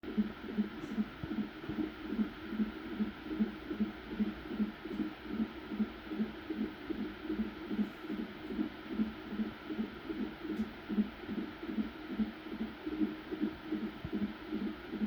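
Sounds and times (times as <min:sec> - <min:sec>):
fetal heartbeat whooshing: 0:00.0 - 0:15.0.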